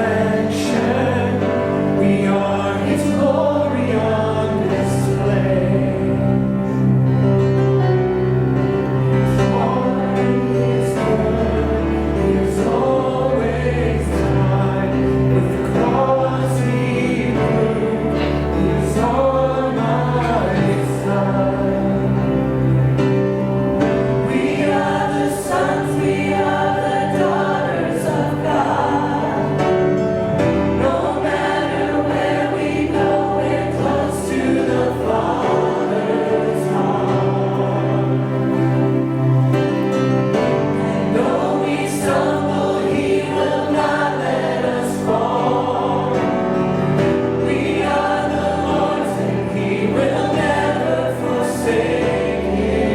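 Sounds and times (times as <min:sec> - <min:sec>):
choir singing: 0:00.0 - 0:52.9
sustained low accompaniment: 0:00.0 - 0:52.9.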